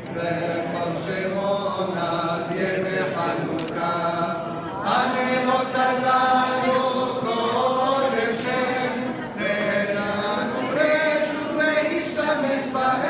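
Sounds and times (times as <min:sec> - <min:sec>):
voices chanting a song: 0:00.0 - 0:13.0.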